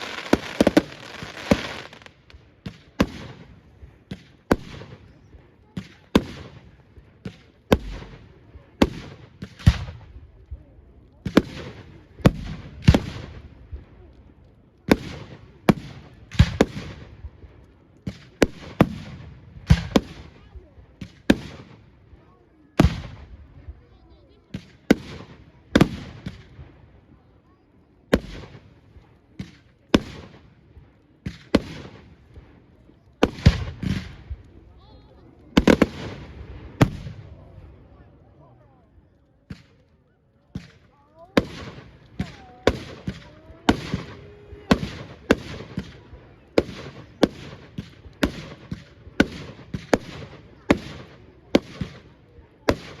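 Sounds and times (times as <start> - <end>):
firework bangs: 0.0 - 10.6, 11.2 - 14.1, 14.8 - 21.9, 24.5 - 26.9, 28.1 - 37.8, 40.5 - 53.0.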